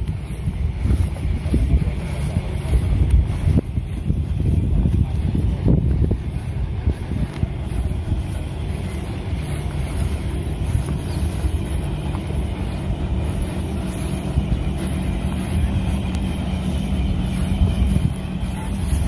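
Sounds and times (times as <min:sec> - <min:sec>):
heavy machinery engine drone: 0:00.0 - 0:19.0
wind rumbling on microphone: 0:00.0 - 0:19.0.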